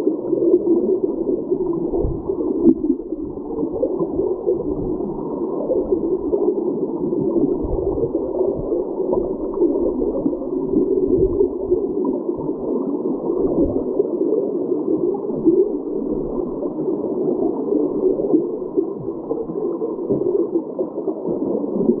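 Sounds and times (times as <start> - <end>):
underwater creek rushing: 0.0 - 22.0.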